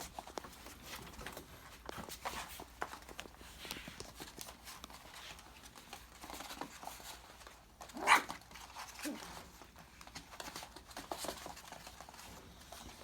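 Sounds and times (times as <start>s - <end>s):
puppy paws pattering on floor: 0.0s - 13.0s.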